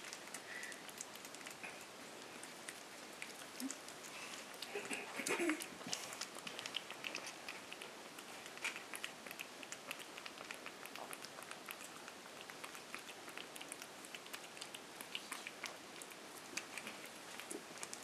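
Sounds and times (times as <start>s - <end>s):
puppy chewing wet food: 0.0s - 18.0s.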